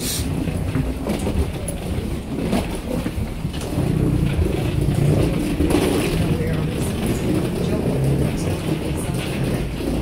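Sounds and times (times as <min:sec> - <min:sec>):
suitcase wheels rumbling: 0:00.3 - 0:10.0.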